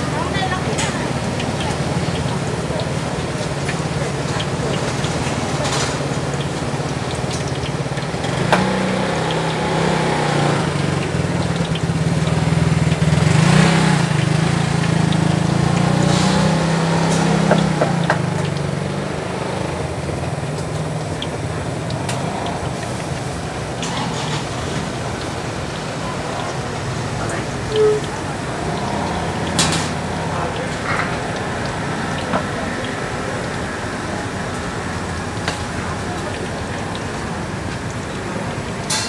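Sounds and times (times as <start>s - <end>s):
engine humming: 0.0s - 39.0s.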